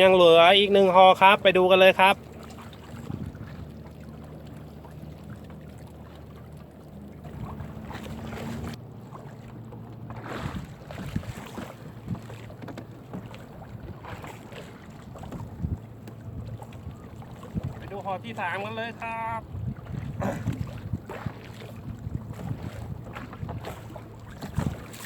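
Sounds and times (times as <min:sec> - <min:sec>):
boat engine running: 0:00.0 - 0:25.0
gear knocking on boat: 0:00.0 - 0:25.0.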